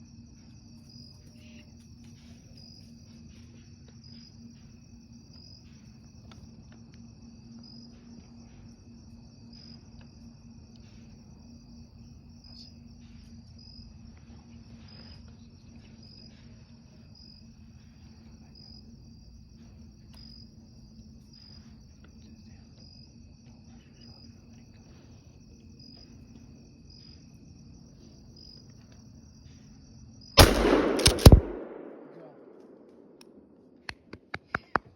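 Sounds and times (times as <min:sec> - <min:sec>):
night insects chirring: 0:00.0 - 0:33.9.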